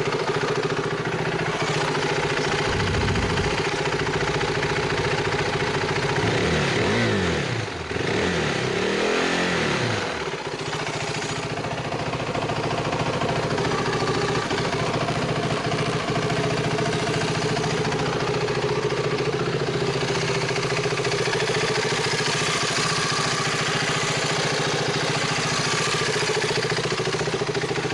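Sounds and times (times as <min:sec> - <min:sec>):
motorcycle engine revving and idling: 0:00.0 - 0:27.9.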